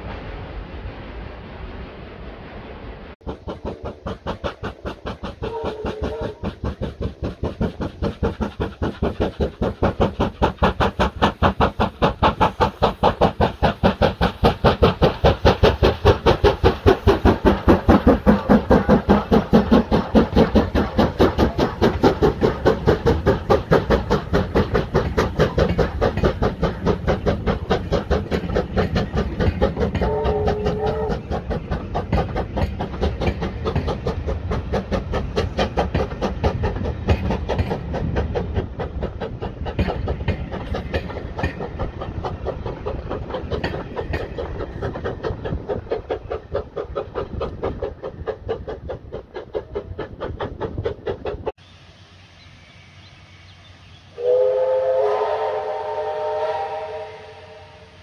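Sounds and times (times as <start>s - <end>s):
steam locomotive exhaust beating: 0.0s - 58.0s.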